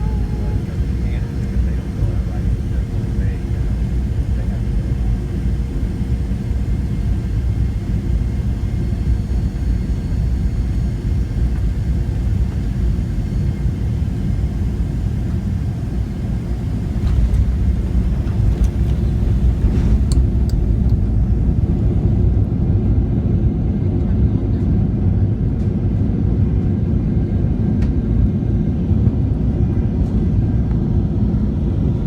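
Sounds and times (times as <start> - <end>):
jet airliner rumble: 0.0 - 32.0.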